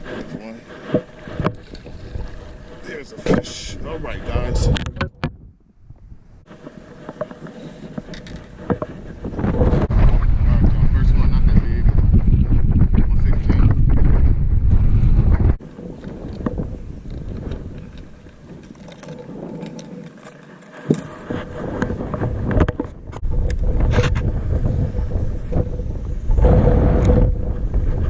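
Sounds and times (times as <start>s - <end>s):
wind buffeting microphone: 0.0s - 6.8s, 7.7s - 20.2s, 20.9s - 28.0s.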